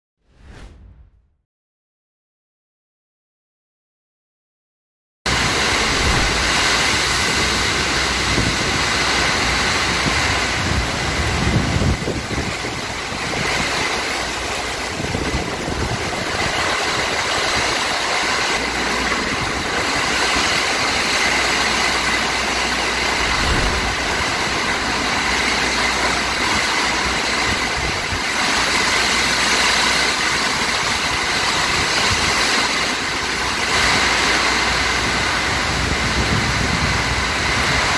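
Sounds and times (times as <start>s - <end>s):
heavy rain pouring: 5.3s - 37.9s
wind gusting on microphone: 5.3s - 37.9s.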